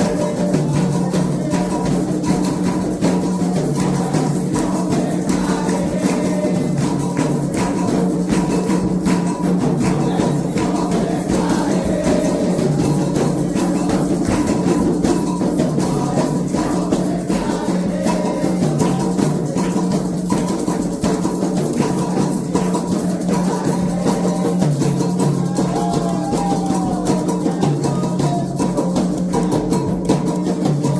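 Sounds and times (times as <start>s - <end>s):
sustained singing: 0.0s - 30.2s
drums and percussion rhythm: 0.0s - 30.9s.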